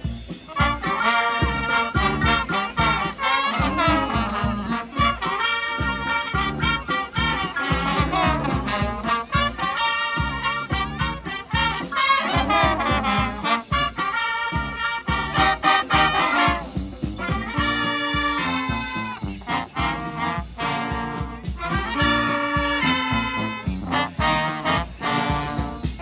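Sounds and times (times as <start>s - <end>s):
brass band playing: 0.0s - 26.0s
sousaphone bass line: 0.0s - 26.0s
steady drum beat: 0.0s - 26.0s.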